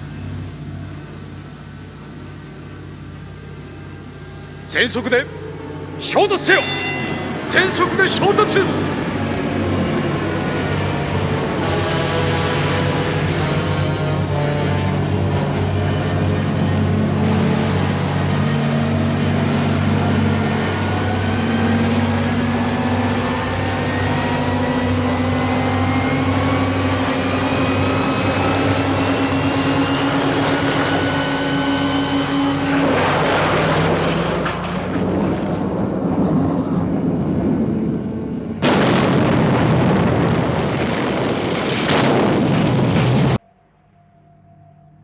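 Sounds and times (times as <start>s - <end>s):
submarine engine drone with whine: 0.0s - 45.0s
rushing noise: 3.6s - 44.0s
loud noisy bursts: 4.7s - 43.4s.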